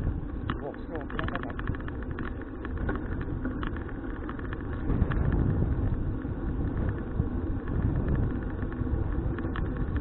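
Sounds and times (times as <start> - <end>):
bicycle clicks and rattles: 0.0 - 10.0
road noise: 0.0 - 10.0
wind rumbling on microphone: 0.0 - 10.0.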